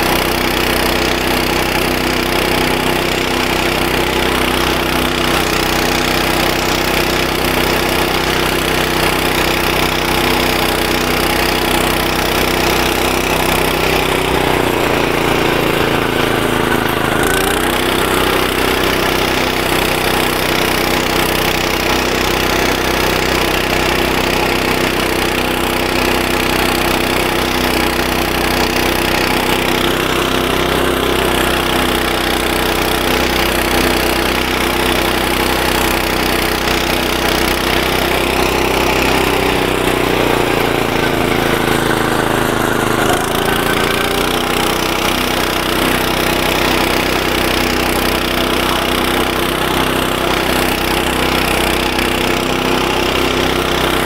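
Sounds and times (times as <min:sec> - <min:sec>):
mower cutting tall grass: 0:00.0 - 0:54.0
tractor engine running: 0:00.0 - 0:54.0.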